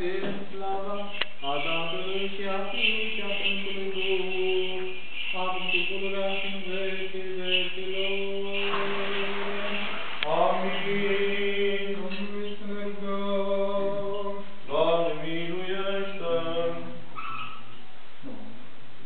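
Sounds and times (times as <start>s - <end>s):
man chanting prayers: 0.0s - 17.0s.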